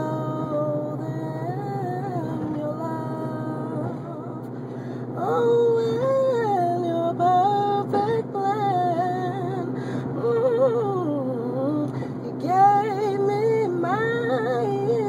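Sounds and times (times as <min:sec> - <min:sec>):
man singing gospel song: 0:00.0 - 0:04.5, 0:05.1 - 0:15.0
steady low hum: 0:00.0 - 0:15.0.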